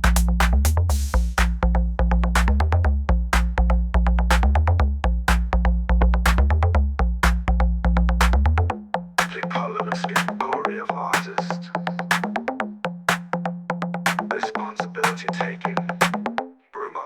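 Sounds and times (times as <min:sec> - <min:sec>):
drum-machine beat: 0:00.0 - 0:03.6, 0:04.3 - 0:05.6, 0:06.2 - 0:07.5, 0:08.1 - 0:16.5
deep bass line: 0:00.0 - 0:16.4.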